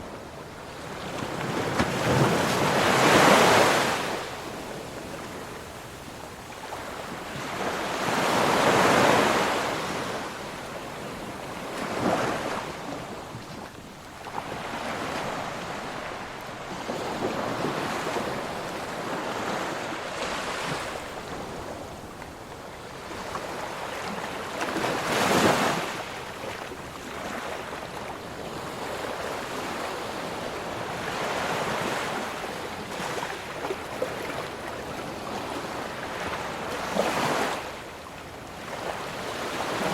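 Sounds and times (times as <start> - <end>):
ocean waves breaking: 0.0 - 37.9.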